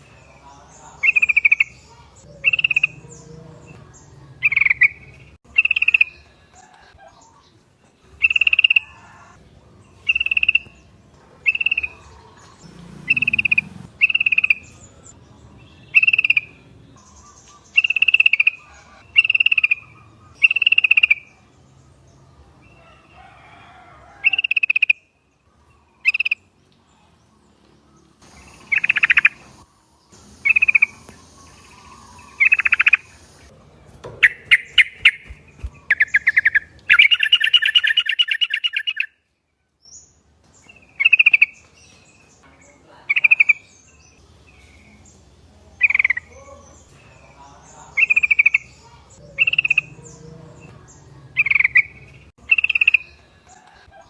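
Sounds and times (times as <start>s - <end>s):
bulbuls calling: 0.0s - 39.2s, 40.5s - 54.0s.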